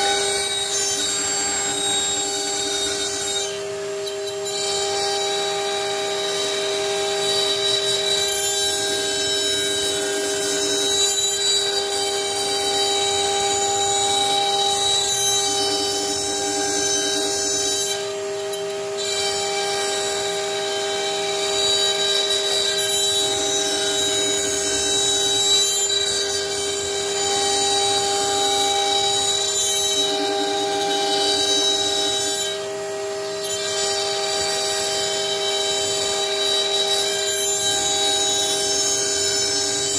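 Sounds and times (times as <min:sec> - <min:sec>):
router bit cutting wood: 0:00.0 - 0:39.9
router spindle whining: 0:00.0 - 0:39.9.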